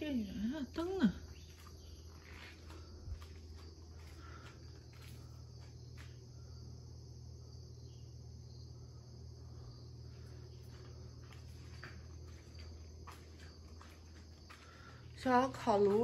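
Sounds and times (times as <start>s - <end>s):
insects chirring: 0.0s - 16.0s
low hum: 0.0s - 16.0s.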